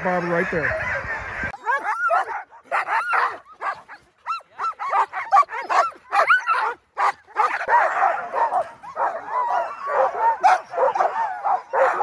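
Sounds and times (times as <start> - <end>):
sled dogs yipping and barking: 0.0 - 12.0.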